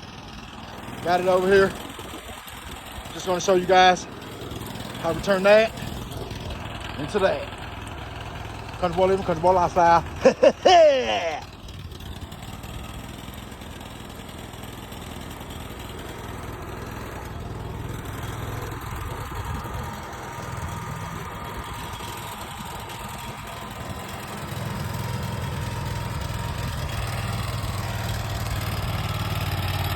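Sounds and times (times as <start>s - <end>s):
sawmill engine running: 0.0s - 29.9s.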